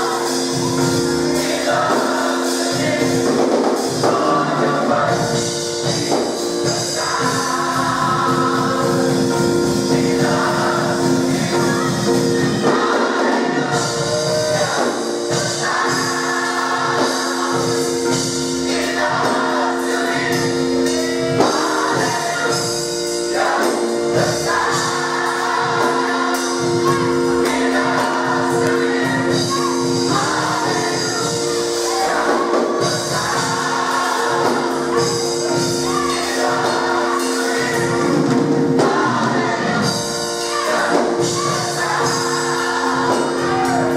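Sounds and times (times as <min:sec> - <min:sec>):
gospel choir singing: 0:00.0 - 0:43.9
held chords: 0:00.0 - 0:43.9.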